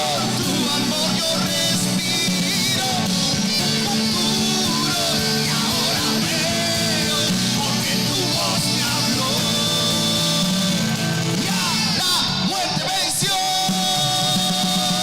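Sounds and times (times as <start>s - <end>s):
worship band with electric guitar: 0.0s - 15.0s.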